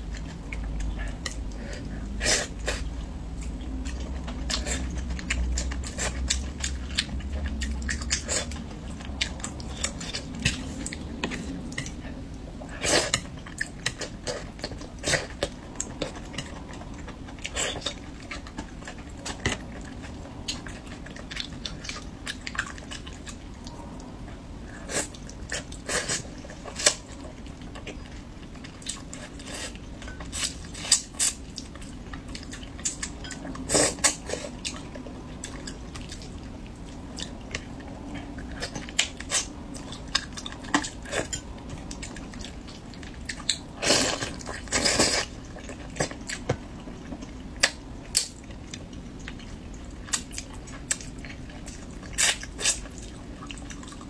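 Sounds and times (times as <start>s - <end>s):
wet chewing sounds: 0.0s - 54.0s.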